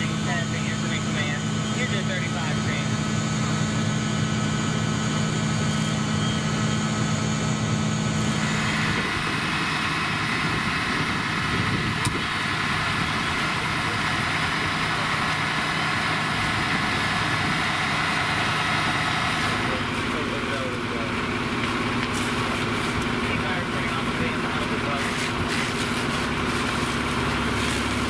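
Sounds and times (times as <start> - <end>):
diesel engines running: 0.0 - 28.0.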